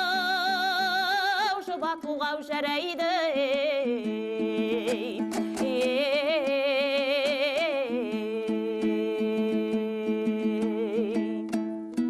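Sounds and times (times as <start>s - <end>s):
person singing wavering wordless vowels: 0.0s - 11.7s
dombra strumming: 0.0s - 12.0s.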